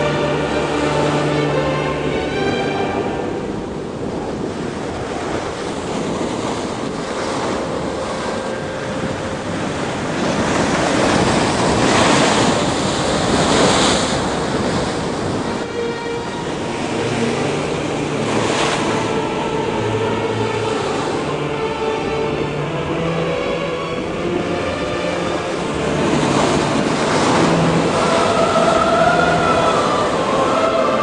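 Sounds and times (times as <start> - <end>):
waves breaking: 0.0 - 31.0
wind buffeting microphone: 2.1 - 31.0.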